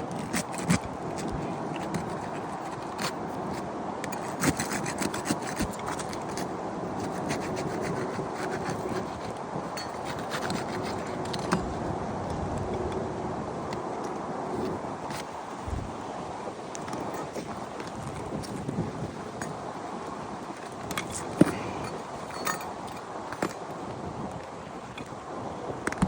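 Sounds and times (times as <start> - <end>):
roof shingles rubbing and scraping: 0.0 - 12.9, 13.5 - 25.2.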